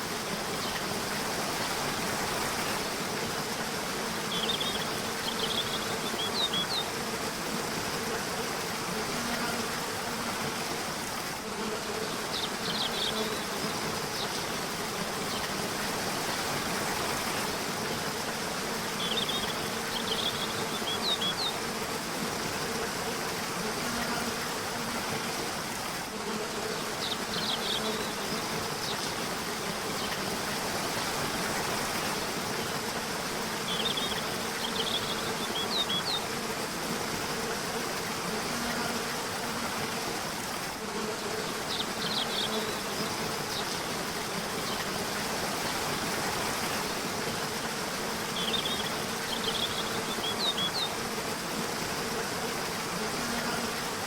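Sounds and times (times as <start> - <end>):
rushing river or waterfall: 0.0 - 54.0.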